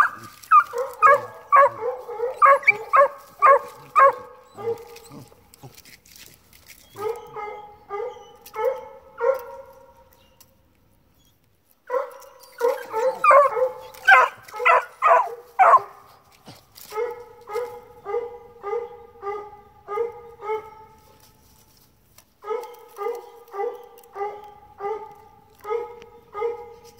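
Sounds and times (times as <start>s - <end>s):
hound pups barking: 0.0s - 10.6s, 11.3s - 26.9s.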